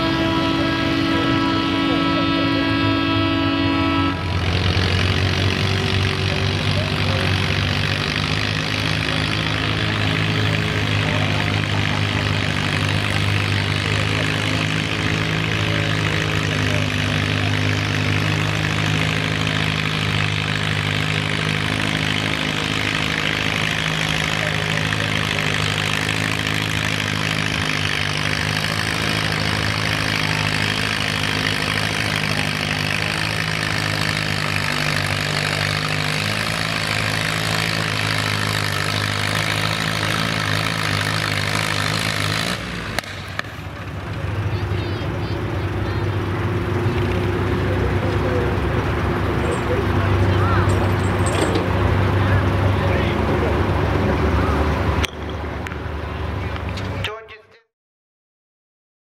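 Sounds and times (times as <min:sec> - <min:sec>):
tractor engine running under load: 0:00.0 - 0:57.3.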